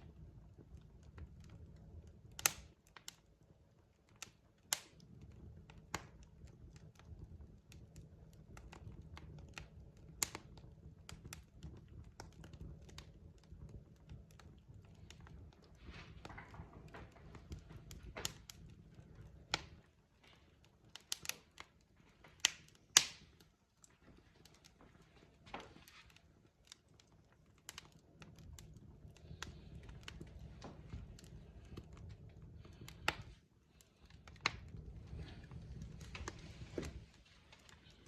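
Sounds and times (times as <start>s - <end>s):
fire crackling and popping: 0.0s - 38.0s
low rumble of flames: 0.0s - 38.0s.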